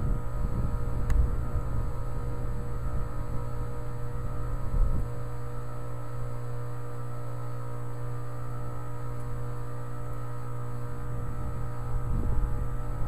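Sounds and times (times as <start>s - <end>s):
heat pump humming: 0.0s - 13.0s.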